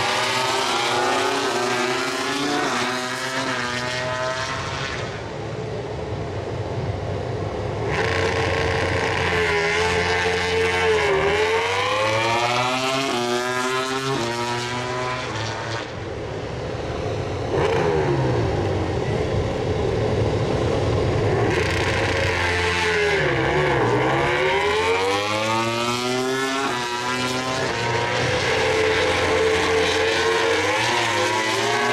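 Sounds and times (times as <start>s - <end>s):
race bike engines revving: 0.0s - 5.4s, 7.6s - 31.9s.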